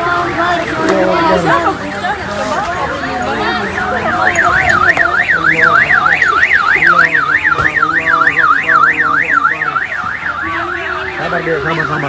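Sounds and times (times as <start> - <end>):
voices: 0.0 - 12.0
electronic siren warbling: 0.1 - 12.0.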